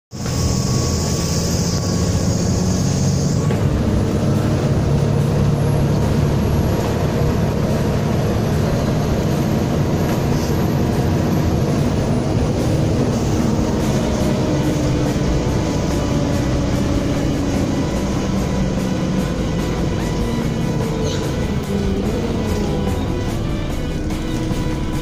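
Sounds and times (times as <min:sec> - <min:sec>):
bus engine drone from inside: 0:00.1 - 0:25.0.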